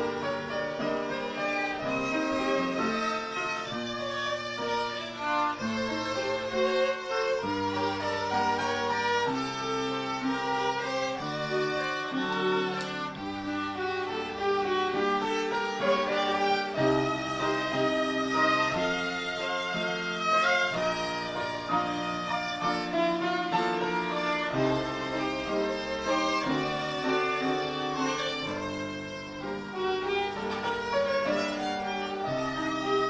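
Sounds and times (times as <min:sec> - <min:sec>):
bowed fiddles playing melody: 0:00.0 - 0:33.0.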